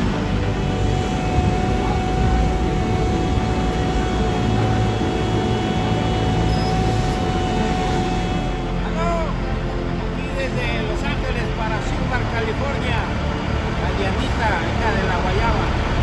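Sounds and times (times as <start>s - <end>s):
steady whine: 0.0s - 16.0s
vehicle engine rumble: 0.0s - 16.0s.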